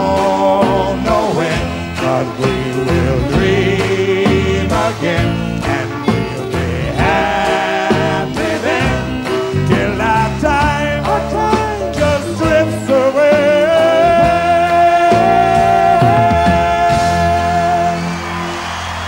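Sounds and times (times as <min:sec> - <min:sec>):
person singing: 0:00.0 - 0:18.6
live folk-rock band: 0:00.0 - 0:19.0.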